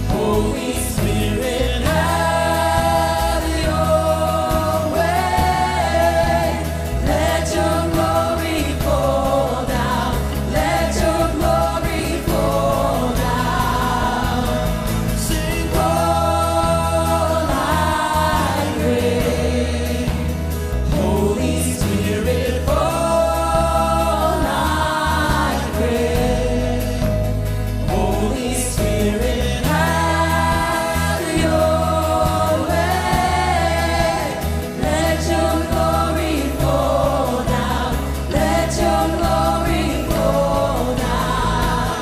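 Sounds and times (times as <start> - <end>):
women singing together: 0.0 - 27.2, 27.9 - 42.0
acoustic guitar: 0.0 - 42.0
bass guitar: 0.0 - 42.0
keyboard: 0.0 - 42.0.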